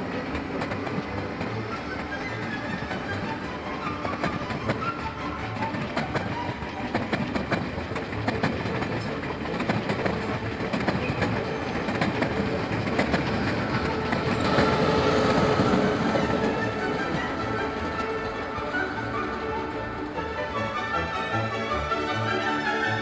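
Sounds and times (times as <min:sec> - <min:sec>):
train wheels clacking over rail joints: 0:00.0 - 0:23.0.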